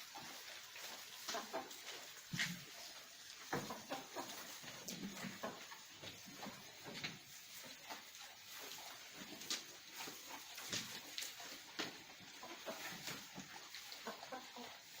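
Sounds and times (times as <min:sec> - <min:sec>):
sheep crunching food: 0:00.0 - 0:15.0.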